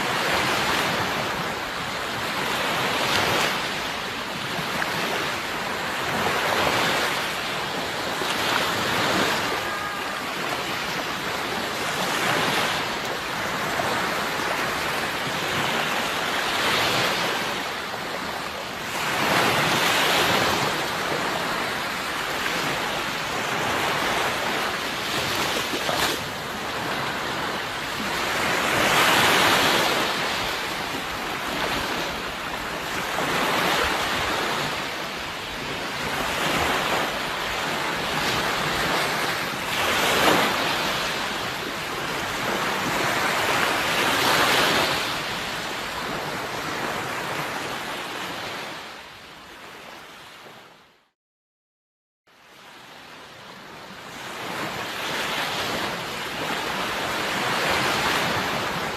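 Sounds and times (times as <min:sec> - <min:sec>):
sea waves breaking on shore: 0:00.0 - 0:50.9, 0:52.4 - 0:58.9.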